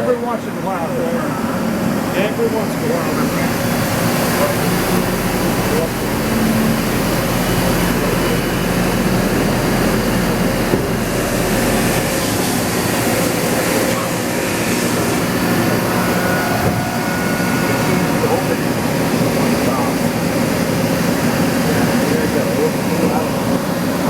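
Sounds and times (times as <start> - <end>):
machine hum with rushing noise: 0.0 - 24.0.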